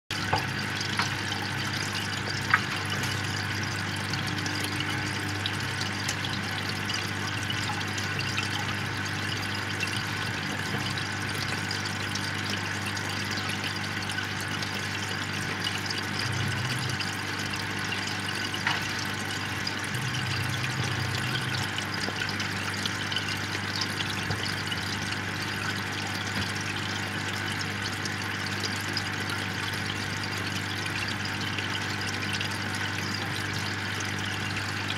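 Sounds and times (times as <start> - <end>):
air stone bubbling in water: 0.2 - 34.9.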